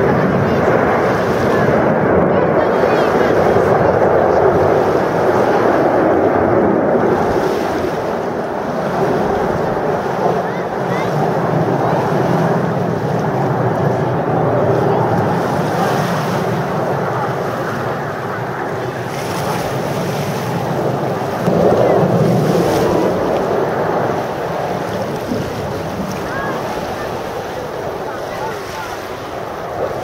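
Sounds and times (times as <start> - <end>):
distant jet engines roaring: 0.0 - 30.0.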